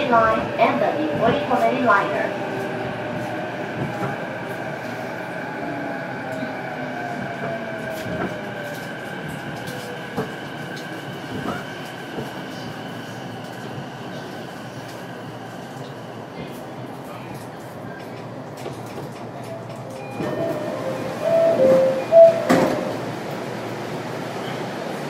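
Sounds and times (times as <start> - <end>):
train wheel-and-rail noise: 0.0 - 25.0.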